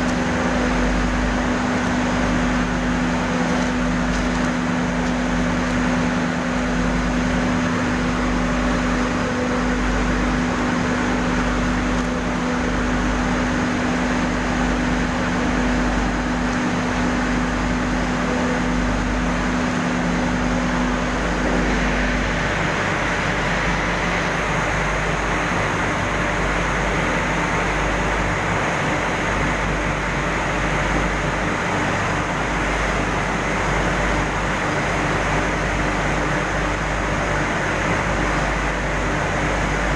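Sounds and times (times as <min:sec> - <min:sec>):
industrial furnace roar: 0:00.0 - 0:39.9.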